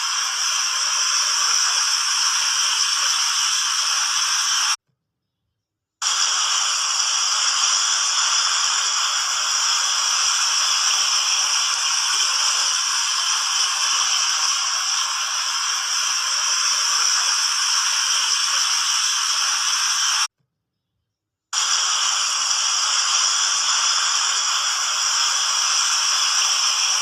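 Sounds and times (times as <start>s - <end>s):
fountain jets splashing: 0.0s - 4.8s, 6.0s - 20.3s, 21.6s - 27.0s.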